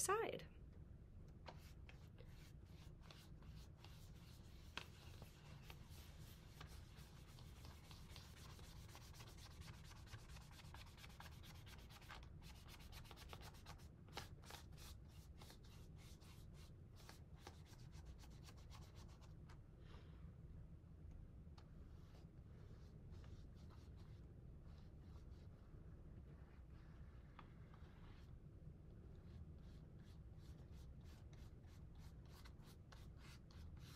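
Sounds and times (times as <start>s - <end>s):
paintbrush strokes on paper plate: 1.5s - 19.3s, 21.9s - 28.5s, 29.2s - 33.9s.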